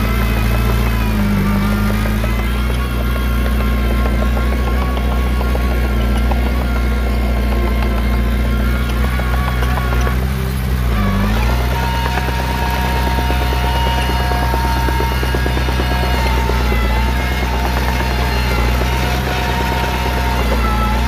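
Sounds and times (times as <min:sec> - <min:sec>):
heavy diesel engine under load: 0:00.0 - 0:21.0.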